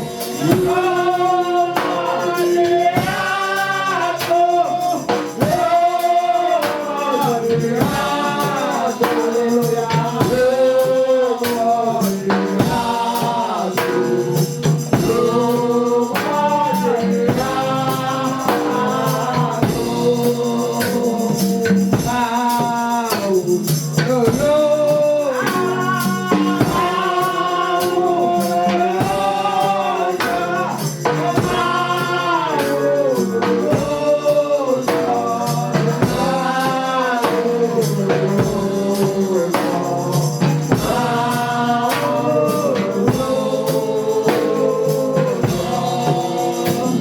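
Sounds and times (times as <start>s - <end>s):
group of voices singing: 0.0s - 47.0s
percussion beat: 0.0s - 47.0s.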